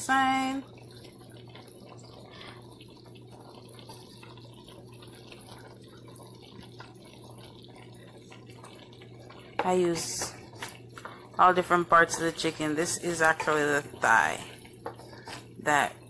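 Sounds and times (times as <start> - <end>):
steady low hum: 0.0 - 16.0
sauce bubbling and popping: 0.6 - 16.0.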